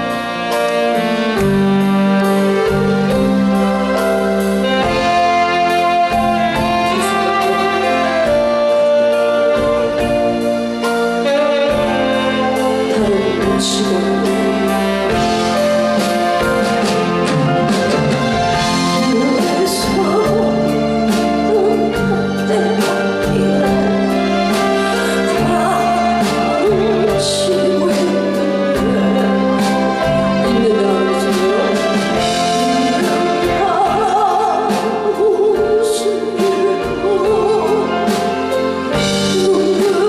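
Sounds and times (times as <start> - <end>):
live band music: 0.0 - 40.0
saxophone melody: 0.0 - 40.0.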